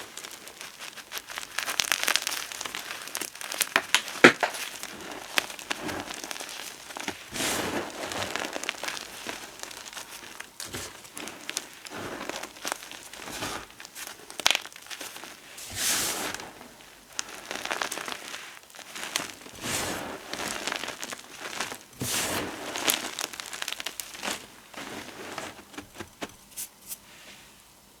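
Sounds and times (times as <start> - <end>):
powder crunching and crumbling: 0.0 - 27.5.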